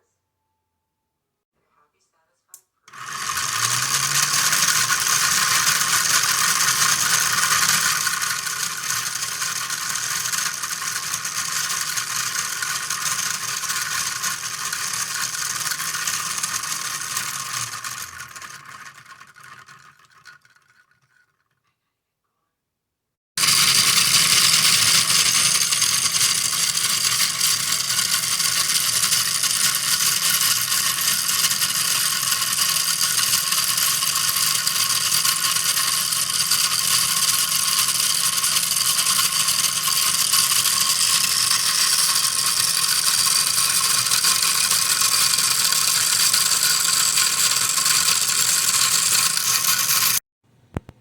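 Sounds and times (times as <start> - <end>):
gearbox motor whirring: 2.9 - 21.4, 23.4 - 50.2.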